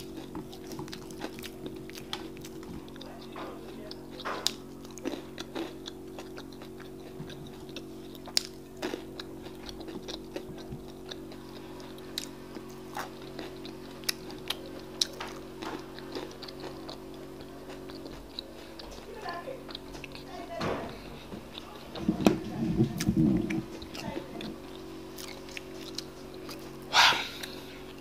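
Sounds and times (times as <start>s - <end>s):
close chewing: 0.0s - 28.0s
steady low hum: 0.0s - 28.0s.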